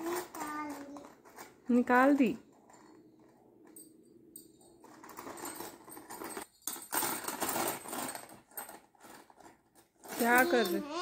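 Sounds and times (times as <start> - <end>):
bangles jangling in plastic tub: 1.4 - 11.0.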